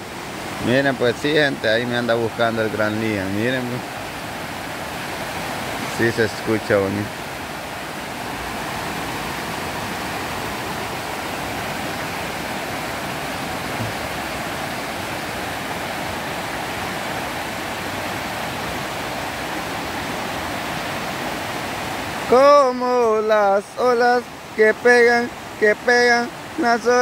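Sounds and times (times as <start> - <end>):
river rushing over boulders: 0.0 - 27.0.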